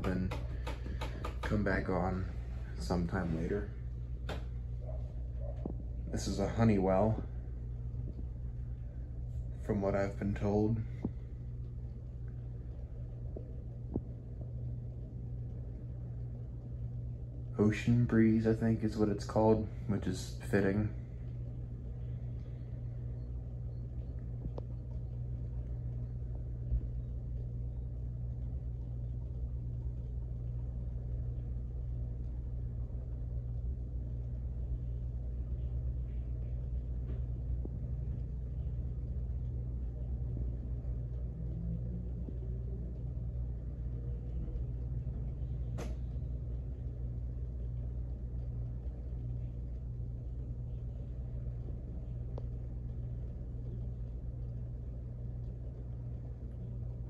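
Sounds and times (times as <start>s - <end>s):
ceiling fan humming: 0.0s - 57.0s.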